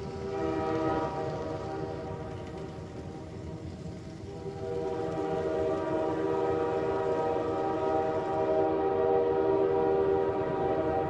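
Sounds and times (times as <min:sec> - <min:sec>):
model train horn chord: 0:00.0 - 0:02.4, 0:03.6 - 0:11.0
train running rumble: 0:00.0 - 0:11.0.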